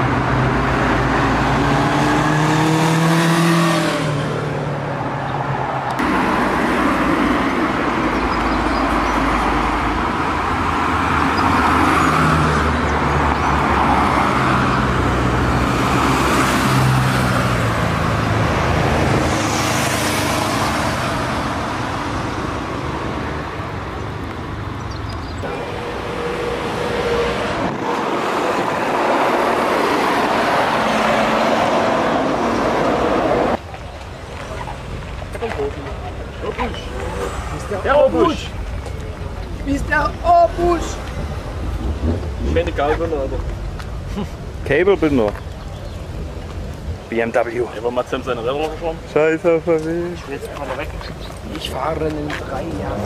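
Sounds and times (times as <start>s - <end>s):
car traffic passing: 0.0s - 53.0s.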